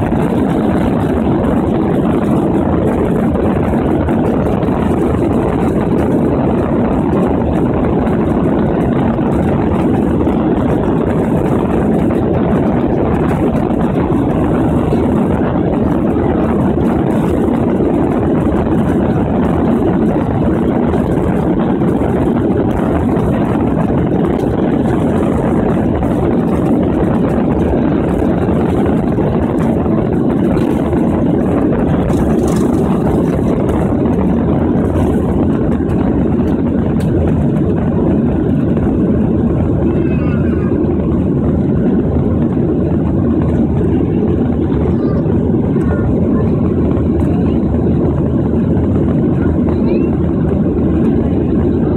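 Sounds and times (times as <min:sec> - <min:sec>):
jet engines and airflow rushing: 0:00.0 - 0:51.9.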